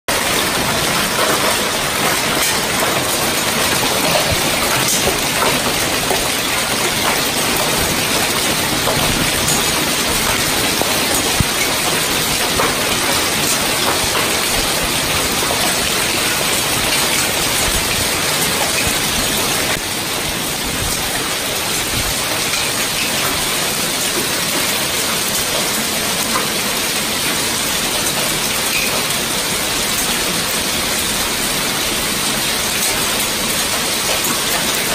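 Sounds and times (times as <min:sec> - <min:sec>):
hail and rain on pavement and cars: 0:00.1 - 0:34.9.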